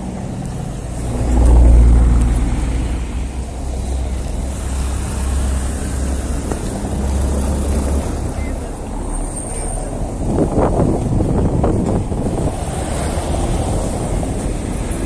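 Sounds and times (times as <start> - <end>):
car engines running low: 0.0 - 15.0
tyres rumbling over cobblestones: 0.0 - 15.0.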